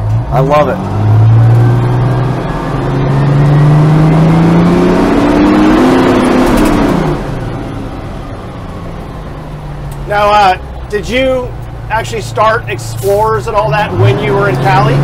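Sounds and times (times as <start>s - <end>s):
fire engine accelerating: 0.0s - 15.0s.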